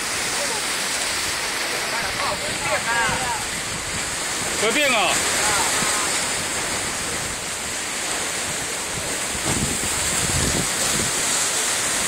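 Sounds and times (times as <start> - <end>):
sea waves washing against breakwater: 0.0 - 12.0
wind buffeting microphone: 1.2 - 12.0.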